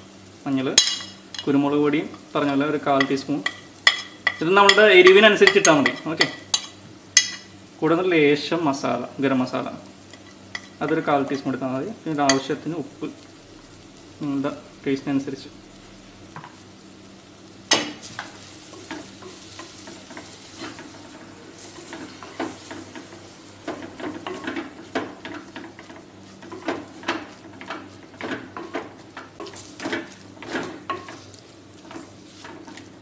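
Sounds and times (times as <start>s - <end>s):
masala sizzling in oil: 0.0s - 33.0s.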